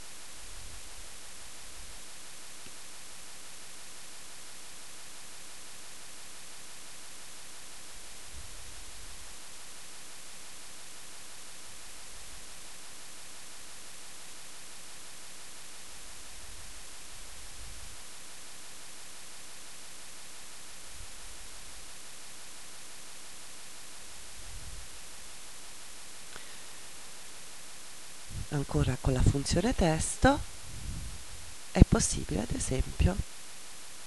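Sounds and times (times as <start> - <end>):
microphone hiss: 0.0 - 34.0.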